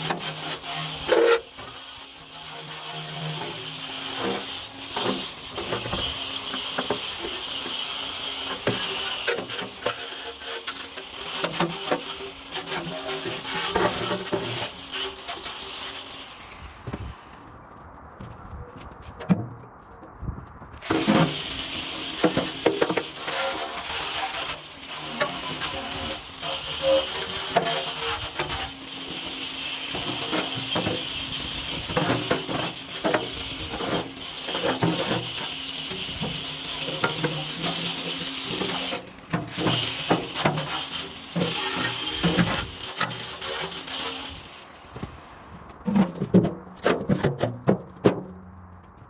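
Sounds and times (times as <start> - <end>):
rubbing and scraping metal: 0.0 - 17.6, 19.0 - 49.0.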